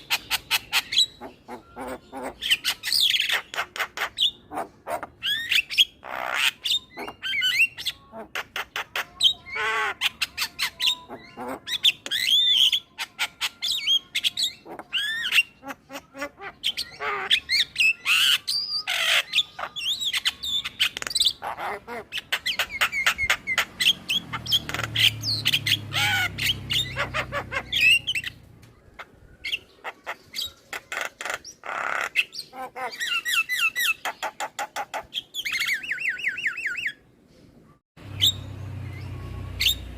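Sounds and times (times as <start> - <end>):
myna chattering song: 0.0 - 5.2, 6.0 - 35.1.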